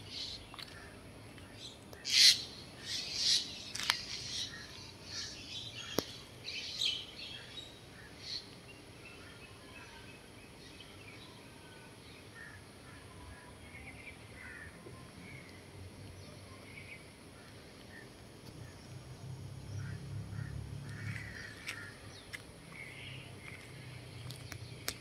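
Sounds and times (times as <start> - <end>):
low outdoor background: 0.0 - 25.0
small birds chirping: 0.0 - 25.0.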